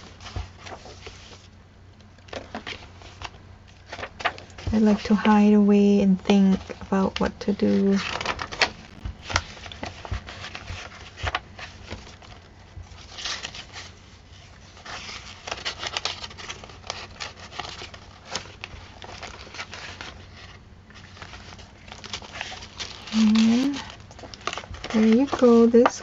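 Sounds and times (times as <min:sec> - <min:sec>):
paper rustling: 0:00.0 - 0:05.5, 0:06.4 - 0:26.0.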